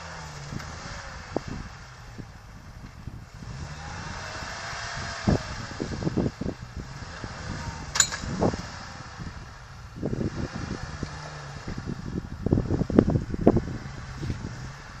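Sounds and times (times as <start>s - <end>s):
distant vehicle engine running: 0.0s - 15.0s.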